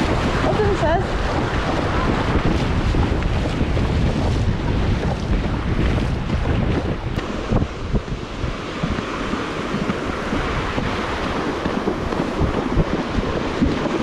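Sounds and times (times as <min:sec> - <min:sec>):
sea surf washing: 0:00.0 - 0:14.0
wind buffeting microphone: 0:00.0 - 0:14.0.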